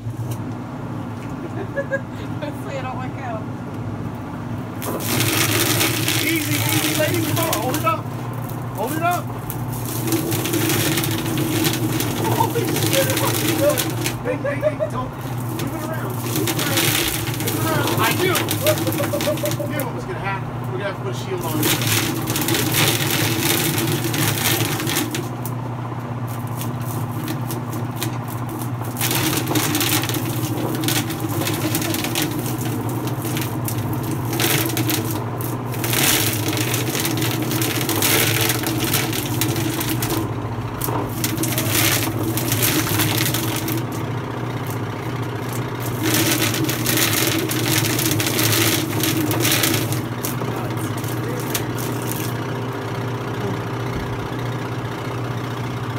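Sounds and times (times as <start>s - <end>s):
motor hum: 0.0s - 55.9s.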